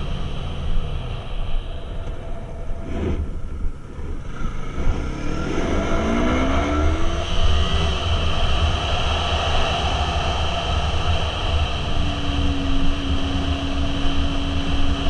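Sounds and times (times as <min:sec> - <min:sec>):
motorcycle engine hum: 0:00.0 - 0:15.0
wind rumble on microphone: 0:00.0 - 0:15.0.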